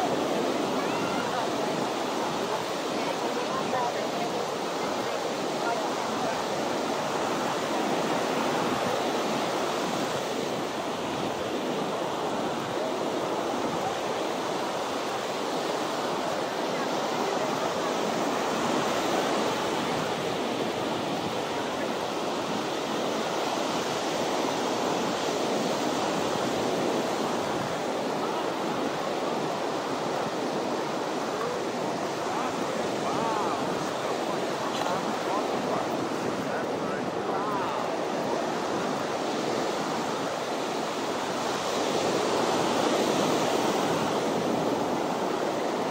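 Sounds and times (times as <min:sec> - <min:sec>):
ocean surf washing onto beach: 0:00.0 - 0:45.9.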